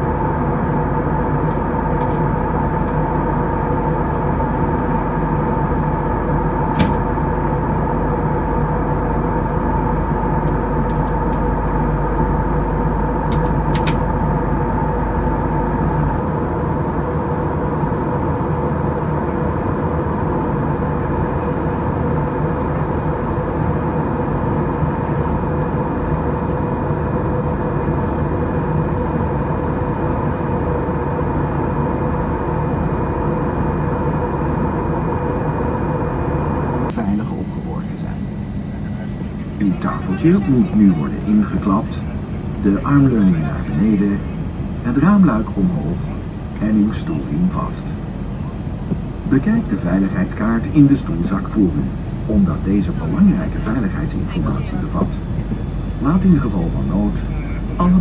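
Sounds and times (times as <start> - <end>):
airliner cabin engine and airflow noise: 0.0 - 58.0.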